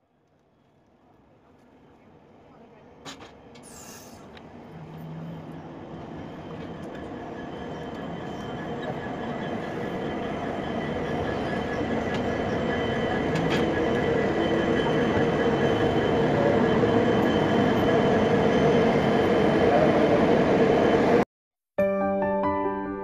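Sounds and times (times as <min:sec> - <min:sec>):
train wheels rumbling on rail: 0:01.4 - 0:21.2.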